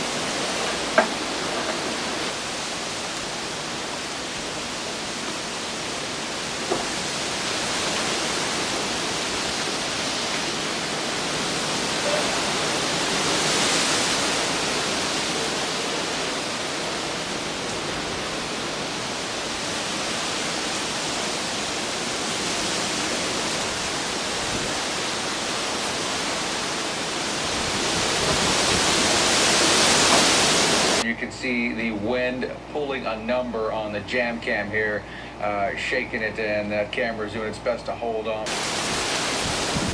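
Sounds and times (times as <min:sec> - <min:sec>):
heavy rain and wind gusts: 0:00.0 - 0:39.9.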